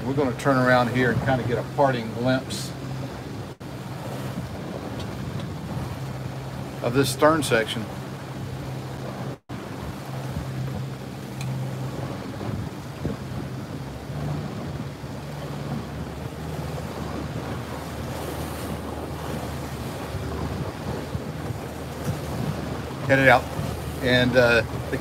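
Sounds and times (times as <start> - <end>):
boat engine humming: 0.0 - 25.0
water wash: 0.0 - 25.0
wind buffeting microphone: 0.0 - 25.0.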